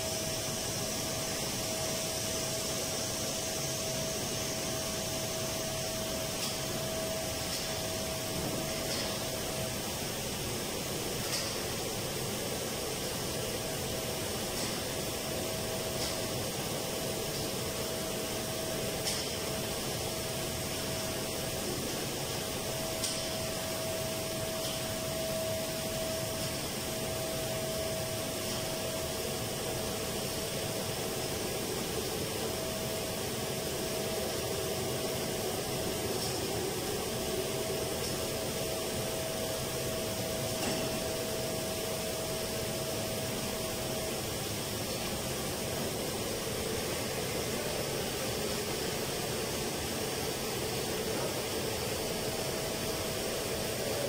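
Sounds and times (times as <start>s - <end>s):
hvac air and machinery hum: 0.0s - 54.0s.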